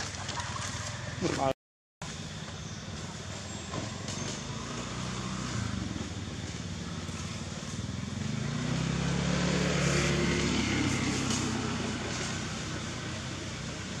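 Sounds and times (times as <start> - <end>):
low motor hum: 2.0 - 14.0.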